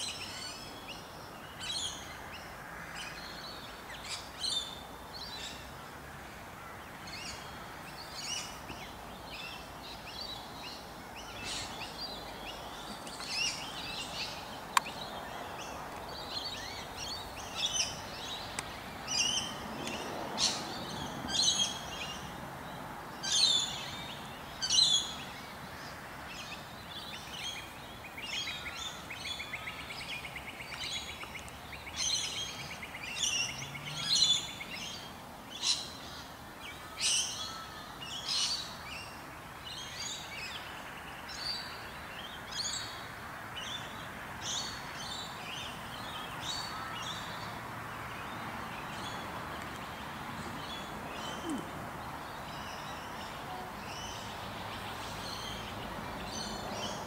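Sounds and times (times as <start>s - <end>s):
steady background hiss: 0.0s - 57.0s
small birds chirping: 6.8s - 57.0s.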